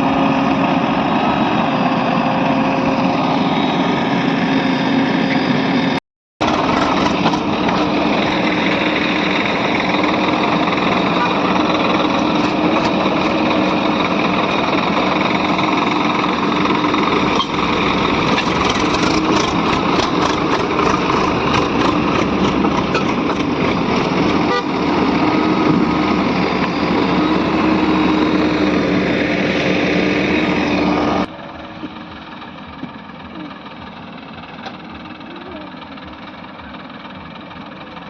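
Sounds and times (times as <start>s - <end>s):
steady whine: 0.0s - 32.8s
diesel engine running: 0.0s - 38.0s.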